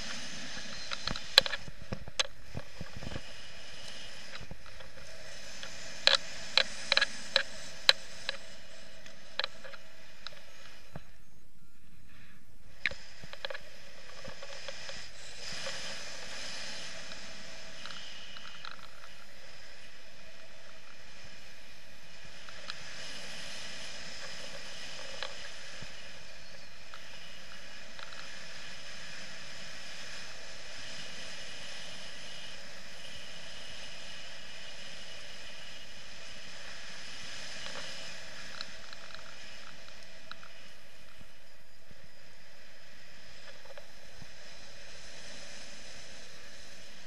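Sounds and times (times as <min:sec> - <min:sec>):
faint clicks: 0:00.0 - 0:11.1, 0:12.8 - 0:19.6, 0:22.1 - 0:41.4, 0:42.5 - 0:47.0.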